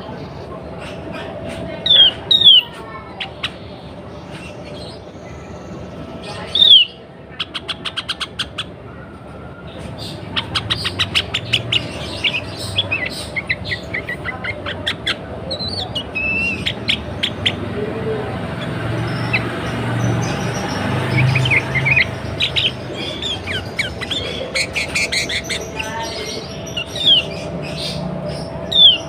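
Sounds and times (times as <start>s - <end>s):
bulbul calling: 0.8s - 5.1s, 6.4s - 8.8s, 10.0s - 29.0s.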